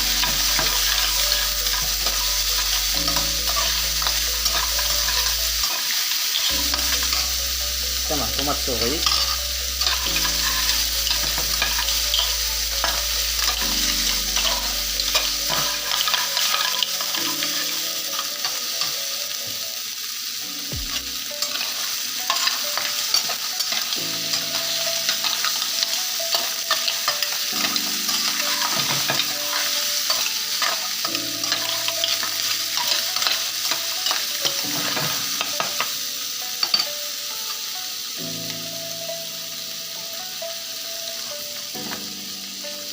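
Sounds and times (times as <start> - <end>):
food sizzling in a frying pan: 0.0 - 42.9.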